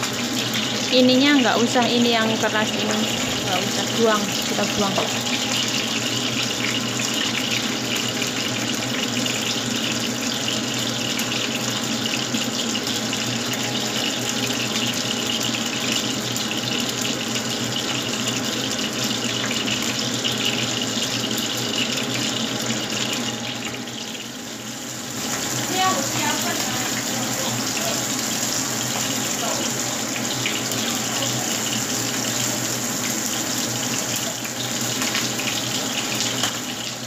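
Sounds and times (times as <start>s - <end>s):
fish deep-frying in oil: 0.0s - 37.0s.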